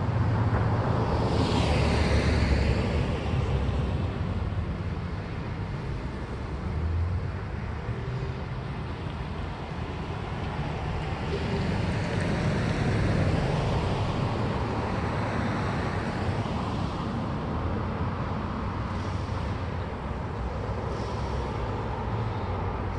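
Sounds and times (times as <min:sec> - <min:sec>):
cars driving past: 0:00.0 - 0:22.9.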